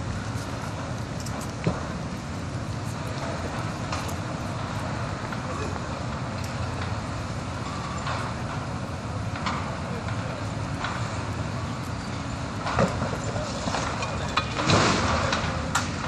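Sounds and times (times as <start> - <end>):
crane diesel engine rumble: 0.0 - 16.0.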